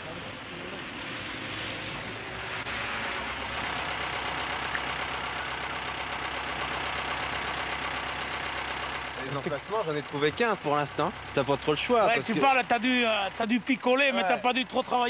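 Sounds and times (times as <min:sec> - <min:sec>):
truck engine low hum: 0:00.0 - 0:15.0
vehicle engines running: 0:00.0 - 0:15.0.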